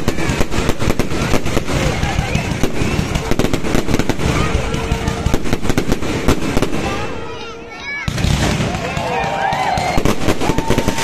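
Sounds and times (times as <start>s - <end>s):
rumble of explosions: 0.0s - 7.4s, 8.1s - 11.0s
fireworks bangs and crackles: 0.0s - 11.0s.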